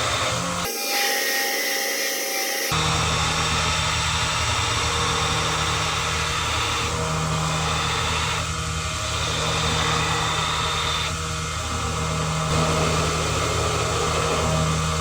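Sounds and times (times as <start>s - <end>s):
belt grinder grinding steel: 0.0s - 15.0s.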